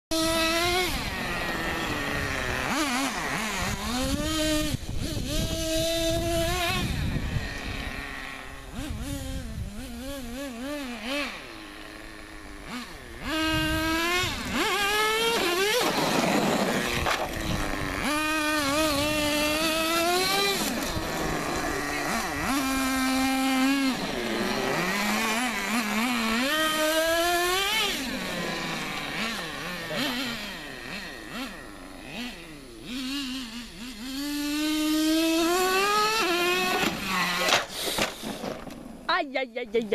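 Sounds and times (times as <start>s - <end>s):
small two-stroke engine revving: 0.1s - 39.9s.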